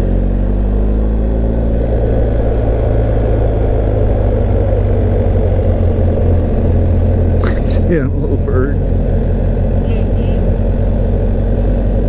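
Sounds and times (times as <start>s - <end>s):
motorcycle engine cruising: 0.0s - 12.0s
tyres on wet road: 0.0s - 12.0s
wind noise: 0.7s - 12.0s.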